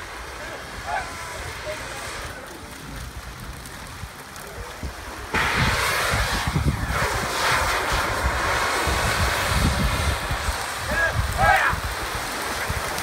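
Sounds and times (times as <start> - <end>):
torch igniting and hissing: 0.0 - 13.0.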